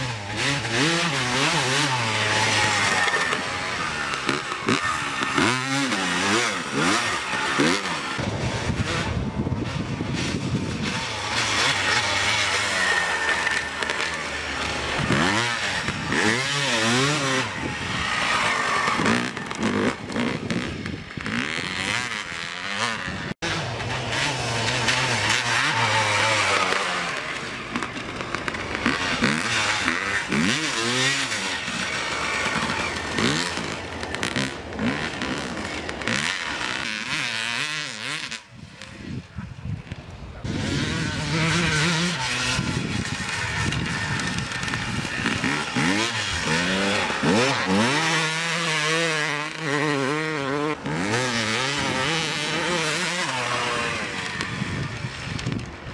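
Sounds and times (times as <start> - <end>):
motocross engine revving: 0.0 - 39.4, 40.4 - 55.9.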